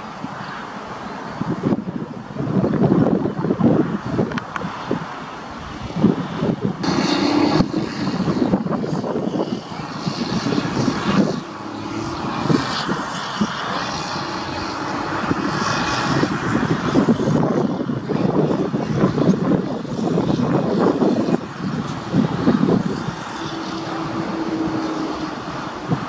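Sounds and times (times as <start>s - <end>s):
diesel locomotive engine drone: 0.0s - 26.0s.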